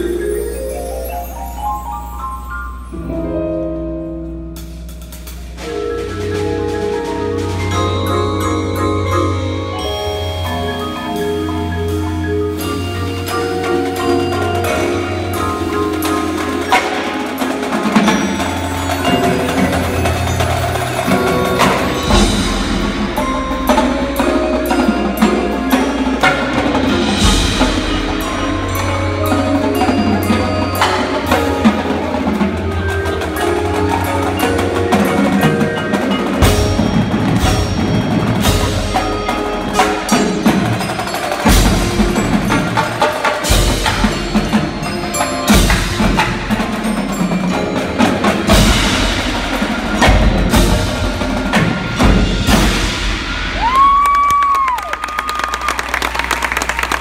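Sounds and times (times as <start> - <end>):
marimbas and vibraphones ringing: 0.0 - 57.0
snare tenor and bass drums: 4.5 - 9.5, 10.3 - 53.8.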